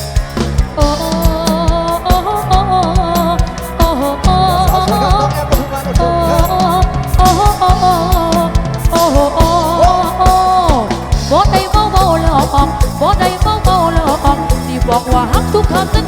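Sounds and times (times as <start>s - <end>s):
drum kit steady beat: 0.0s - 16.0s
pitch-bending lead melody: 0.0s - 16.0s.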